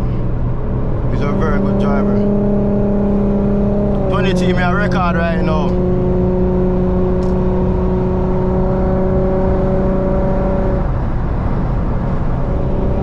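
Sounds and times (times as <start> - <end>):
car road and engine rumble: 0.0 - 13.0
exhaust drone: 0.0 - 13.0.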